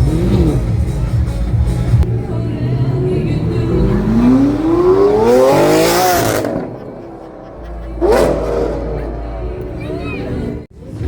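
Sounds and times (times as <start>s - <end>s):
sports car engine accelerating: 0.0s - 10.7s.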